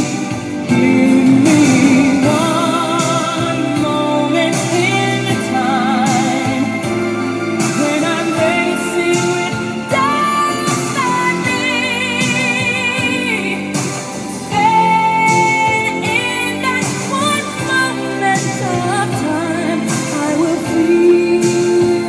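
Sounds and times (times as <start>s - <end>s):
pop song with singer and band: 0.0s - 22.0s.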